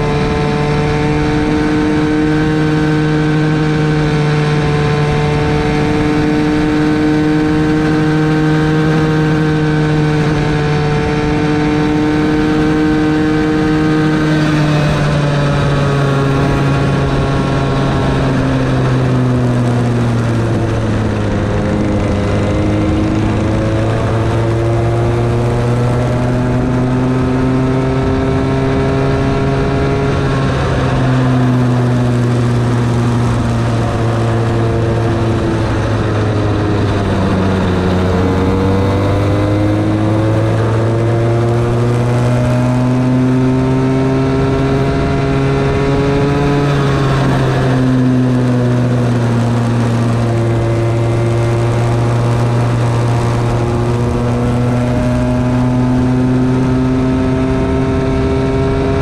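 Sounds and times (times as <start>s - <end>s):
go-kart engine running flat out: 0.0s - 59.0s.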